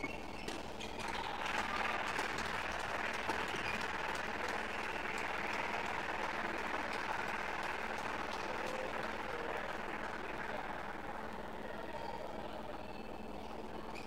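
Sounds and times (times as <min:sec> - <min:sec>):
spectators applauding: 0:01.0 - 0:12.5.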